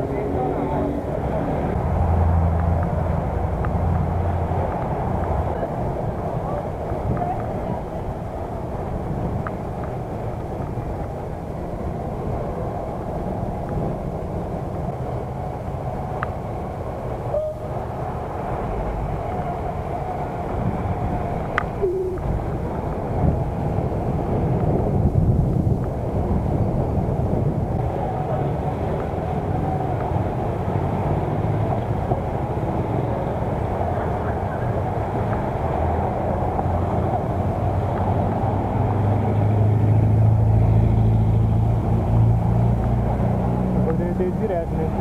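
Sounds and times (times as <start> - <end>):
muffled wind and road rumble: 0.0 - 45.0.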